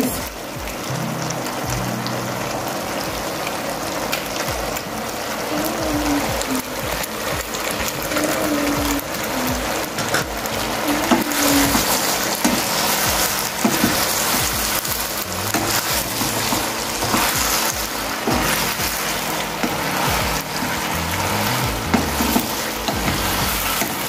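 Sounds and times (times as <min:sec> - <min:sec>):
faint music: 0:00.0 - 0:24.0
pot hissing on stove: 0:00.0 - 0:24.0.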